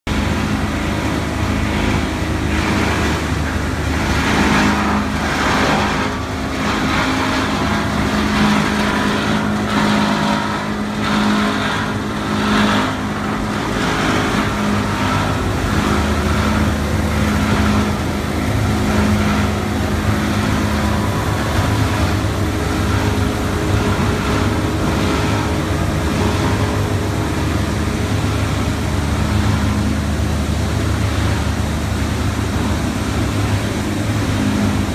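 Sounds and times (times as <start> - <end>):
washing machine running: 0.0 - 34.9
rattling surges: 0.1 - 34.9
electric motor hum: 0.4 - 34.9.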